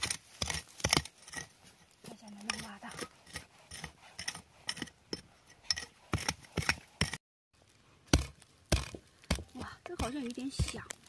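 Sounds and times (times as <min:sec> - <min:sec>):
hand hoe chopping into soil: 0:00.0 - 0:01.5, 0:02.4 - 0:07.2, 0:08.1 - 0:11.0.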